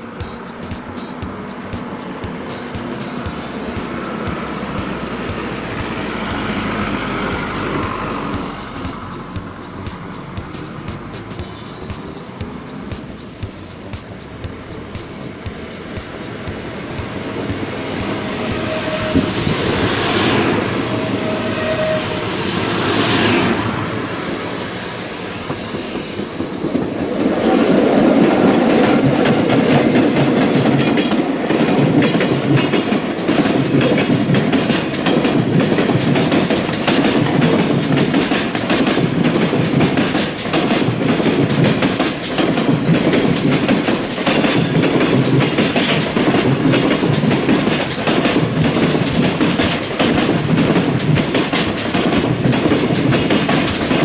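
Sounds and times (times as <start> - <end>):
electric locomotive passing: 0.0 - 54.0
train wheels clattering over rail joints: 0.0 - 54.0.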